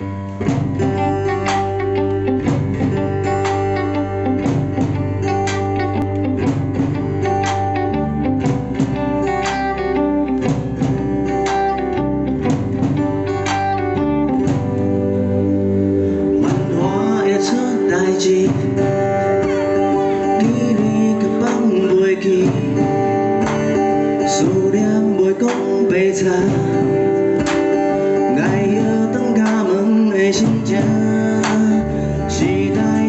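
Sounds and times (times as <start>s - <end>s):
deep bass: 0.0s - 25.2s, 30.4s - 33.0s
drums: 0.0s - 33.0s
electric guitar: 0.0s - 33.0s
strummed acoustic guitar: 0.0s - 33.0s.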